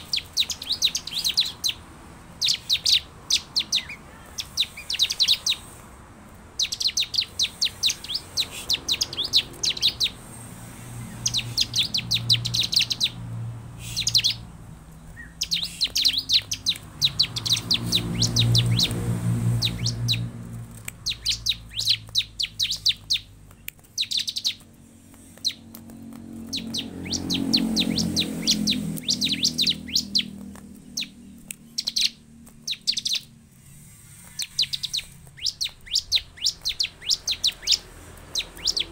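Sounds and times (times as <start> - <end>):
bird trilling chirps: 0.0 - 5.8, 6.6 - 10.3, 10.9 - 13.2, 13.8 - 38.9.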